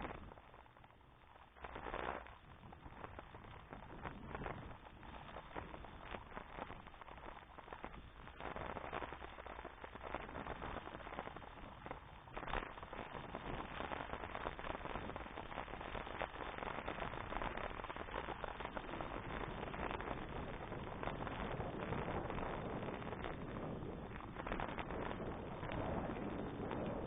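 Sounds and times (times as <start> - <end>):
bicycle tyres crackling on track: 0.0 - 27.0.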